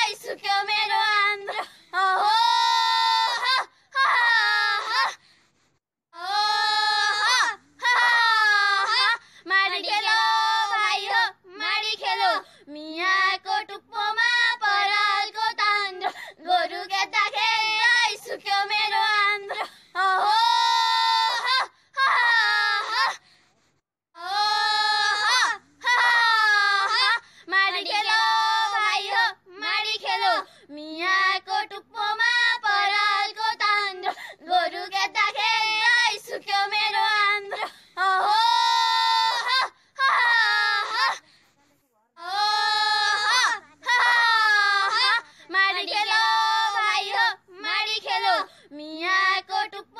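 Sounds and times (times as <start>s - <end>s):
women singing drawn-out phrases: 0.0s - 5.1s, 6.2s - 23.1s, 24.2s - 41.2s, 42.2s - 49.9s.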